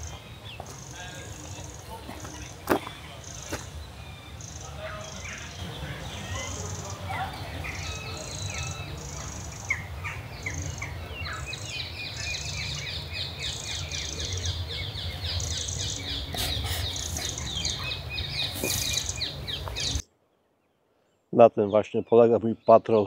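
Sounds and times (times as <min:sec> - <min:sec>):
bird singing trilled notes: 0:03.2 - 0:23.0.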